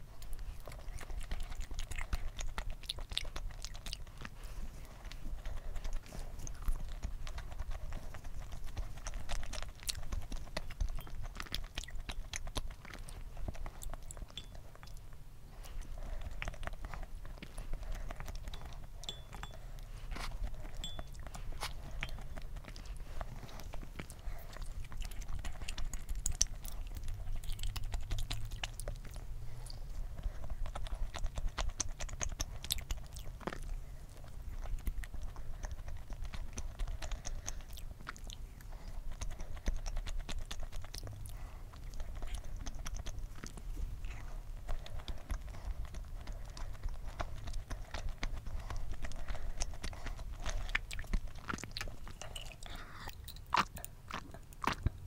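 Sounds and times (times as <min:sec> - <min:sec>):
close chewing with wet mouth sounds: 0:00.0 - 0:55.0
small mouth clicks: 0:05.0 - 0:55.0.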